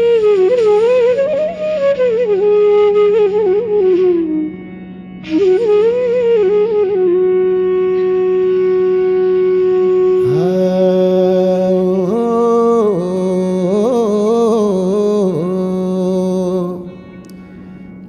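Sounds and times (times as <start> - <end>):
long held melodic note: 0.0 - 18.0
sliding wavering melodic line: 0.0 - 18.0.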